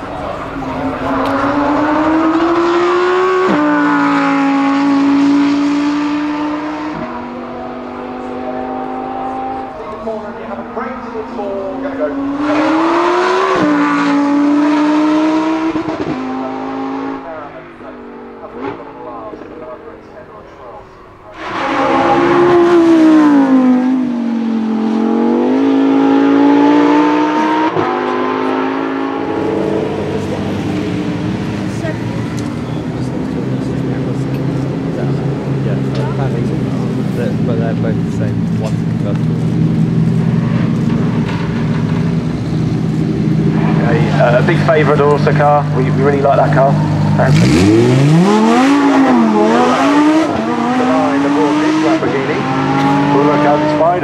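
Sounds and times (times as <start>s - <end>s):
sports car engine accelerating: 0.0s - 54.0s.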